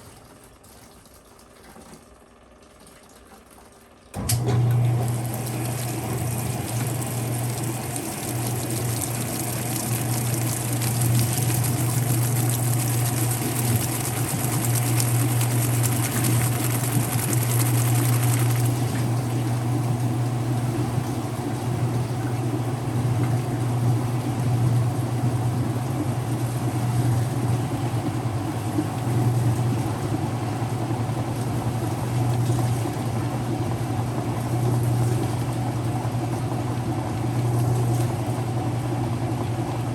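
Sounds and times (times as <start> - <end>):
washing machine motor hum: 0.0 - 39.9
hissing wash water: 4.4 - 39.9.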